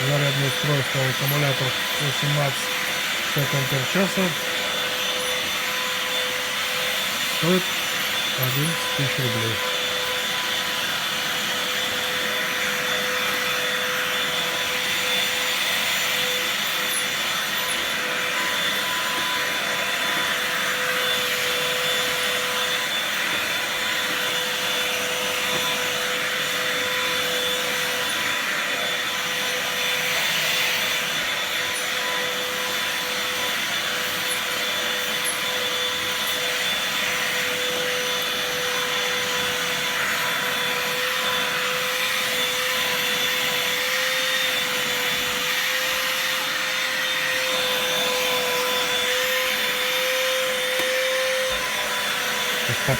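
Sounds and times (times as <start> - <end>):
handheld vacuum cleaner running: 0.0 - 52.9.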